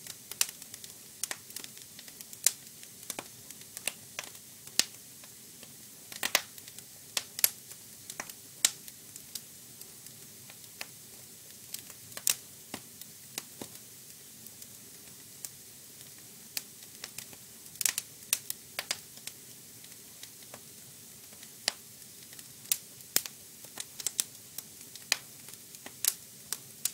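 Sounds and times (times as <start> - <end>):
faint steady hiss: 0.0 - 26.9
fire crackling: 0.0 - 26.9.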